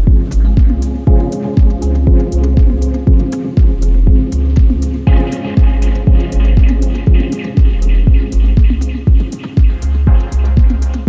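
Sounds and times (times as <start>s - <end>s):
crisp hi-hats: 0.0s - 11.0s
electronic dance music: 0.0s - 11.0s
kick drum beat: 0.0s - 11.0s.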